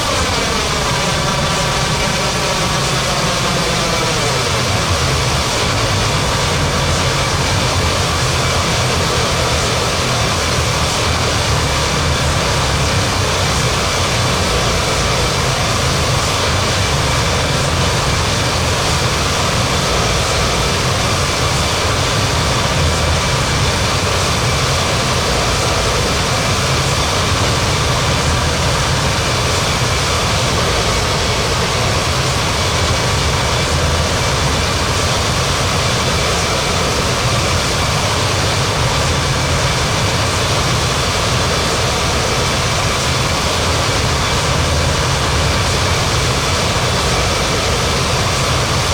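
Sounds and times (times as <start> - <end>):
jet engines running: 0.0 - 48.9
thin whine: 0.0 - 48.9.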